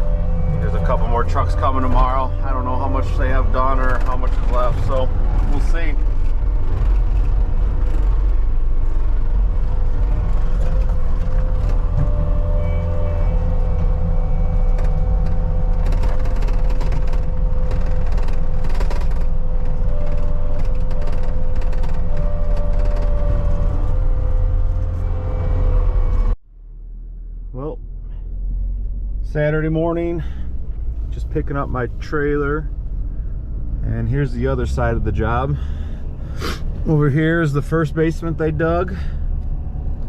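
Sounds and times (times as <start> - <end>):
constant whine: 0.0 - 40.0
diesel engine drone: 0.0 - 40.0.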